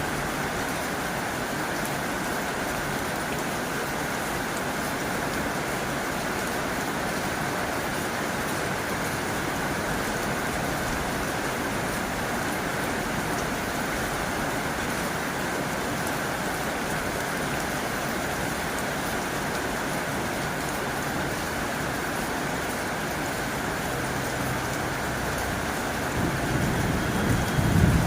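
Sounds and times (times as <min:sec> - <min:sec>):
heavy rain on a tin roof: 0:00.0 - 0:28.0.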